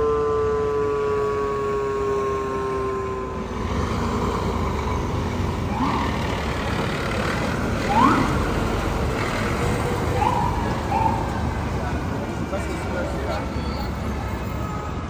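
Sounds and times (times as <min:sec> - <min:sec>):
fire engine rumbling: 0:00.0 - 0:15.0.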